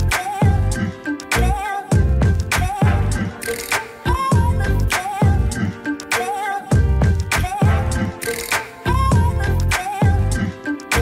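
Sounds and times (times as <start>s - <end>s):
hip-hop track with heavy bass beat: 0.0s - 11.0s.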